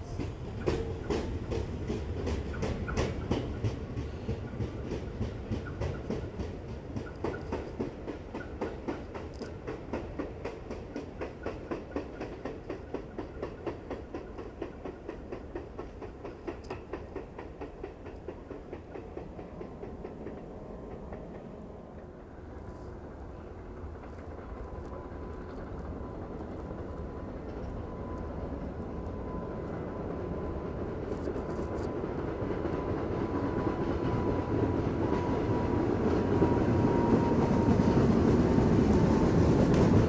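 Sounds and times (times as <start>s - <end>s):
train low rumble: 0.0s - 40.0s
train wheels clicking over rail joints: 0.0s - 40.0s.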